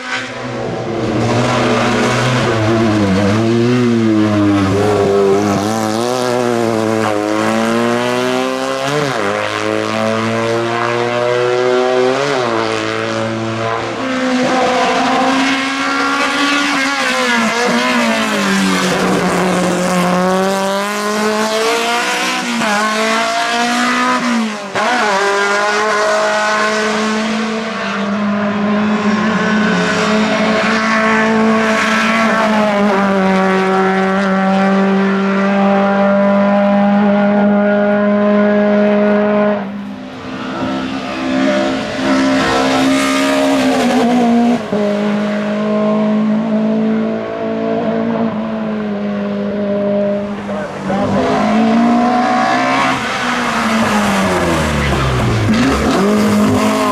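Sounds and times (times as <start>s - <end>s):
racing car engine at full throttle: 0.0s - 56.9s.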